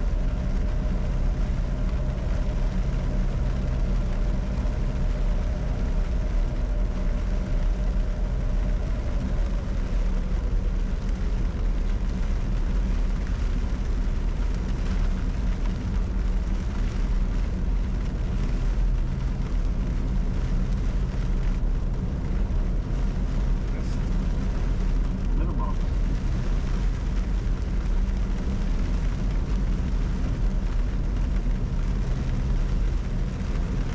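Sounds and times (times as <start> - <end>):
cockpit low hum: 0.0 - 33.9.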